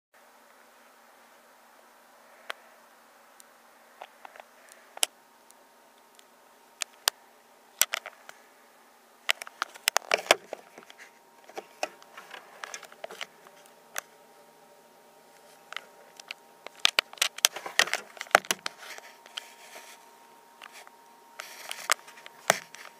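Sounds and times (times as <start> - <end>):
faint steady hum: 0.2 - 22.9.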